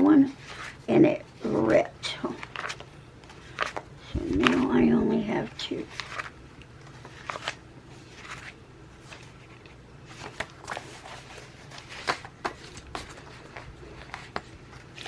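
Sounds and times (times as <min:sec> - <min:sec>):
paper rustling: 0:00.4 - 0:15.0.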